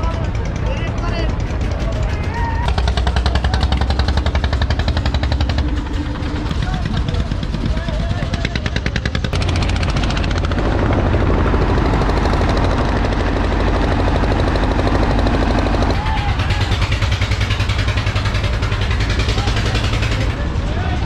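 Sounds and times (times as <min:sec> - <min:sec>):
boat engine chugging: 0:00.0 - 0:21.0.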